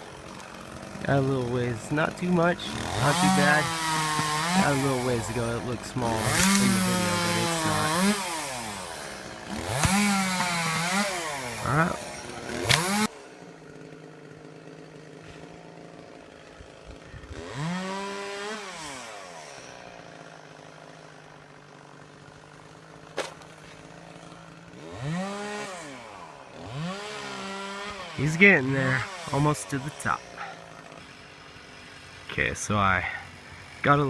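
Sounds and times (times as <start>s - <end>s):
chainsaw idling and revving: 0.0s - 34.0s.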